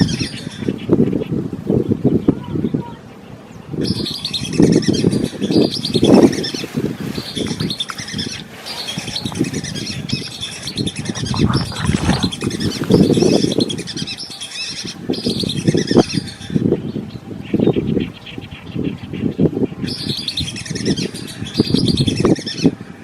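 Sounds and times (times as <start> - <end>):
birds chirping in chorus: 0.0 - 23.0.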